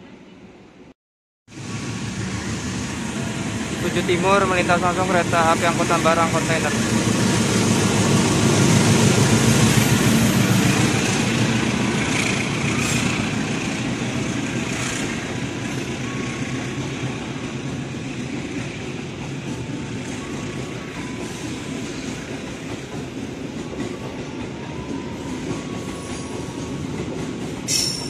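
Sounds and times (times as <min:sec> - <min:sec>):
locomotive engine passing: 0:01.5 - 0:28.0.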